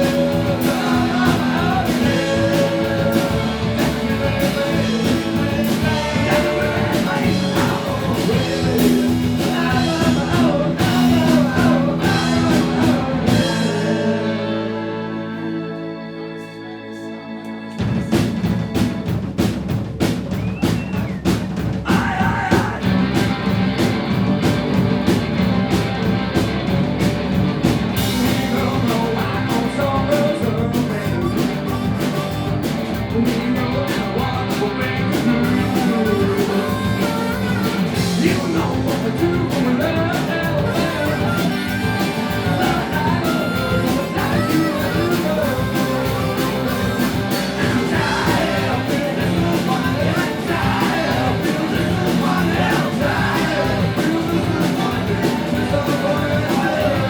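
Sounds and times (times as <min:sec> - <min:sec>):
drums: 0:00.0 - 0:16.0, 0:17.5 - 0:57.0
lead singer singing: 0:00.0 - 0:16.1, 0:20.6 - 0:23.3, 0:28.0 - 0:57.0
live rock band playing: 0:00.0 - 0:57.0.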